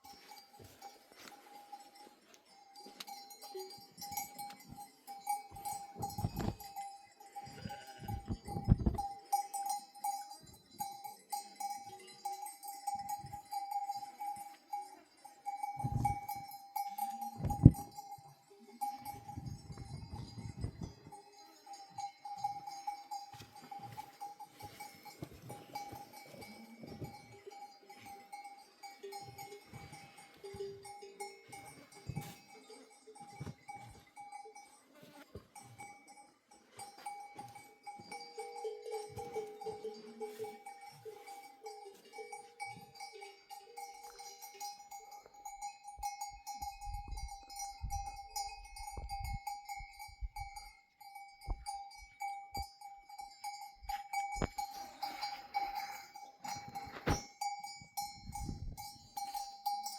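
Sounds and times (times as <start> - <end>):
sheep bells clinking: 0.0 - 59.9.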